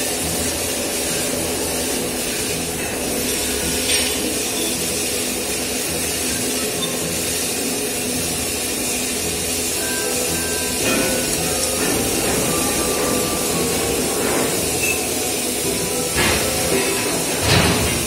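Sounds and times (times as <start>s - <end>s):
loud steady hiss: 0.0s - 18.0s.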